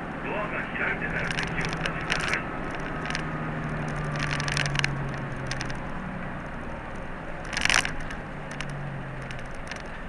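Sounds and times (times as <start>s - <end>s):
bus engine hum: 0.0s - 10.0s
road noise: 0.0s - 10.0s
clicking rattles: 0.8s - 10.0s.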